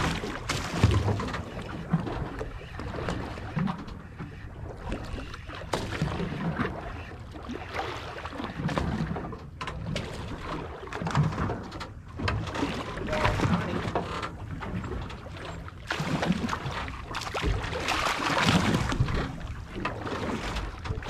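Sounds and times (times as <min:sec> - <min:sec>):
water lapping against hull: 0:00.0 - 0:21.0.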